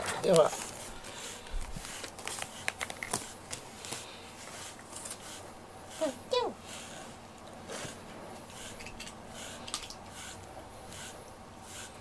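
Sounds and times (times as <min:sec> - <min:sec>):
comb brushing cat fur: 0:00.2 - 0:12.0.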